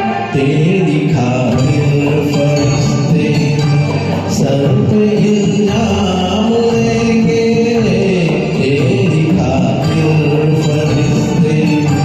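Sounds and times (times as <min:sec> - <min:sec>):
karaoke backing track music: 0:00.0 - 0:12.0.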